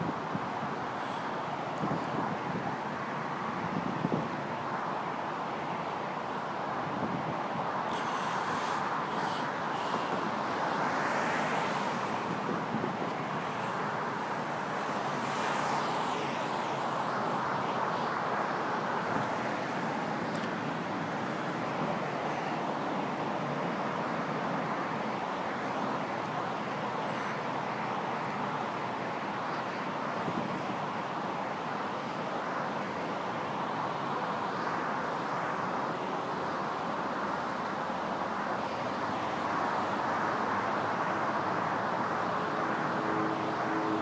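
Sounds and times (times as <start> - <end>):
road traffic hiss: 0.0 - 44.0.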